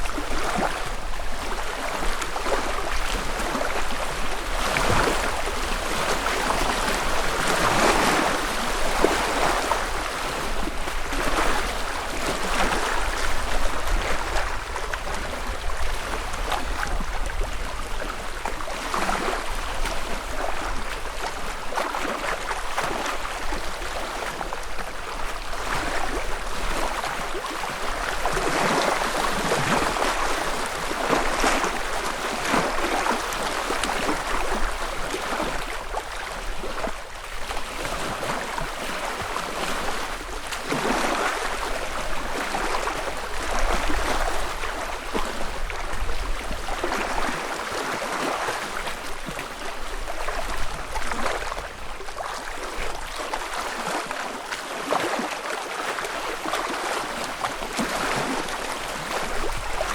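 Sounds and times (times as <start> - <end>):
lake waves lapping on shore: 0.0 - 59.9.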